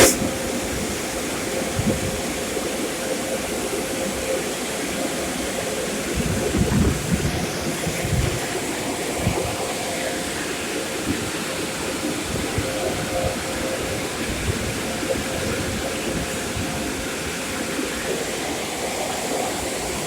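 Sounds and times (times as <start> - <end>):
water spray rushing: 0.0 - 20.0.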